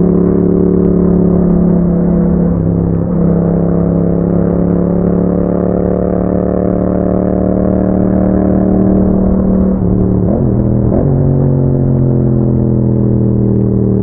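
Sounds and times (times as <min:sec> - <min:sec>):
motorcycle engine drone: 0:00.0 - 0:14.0.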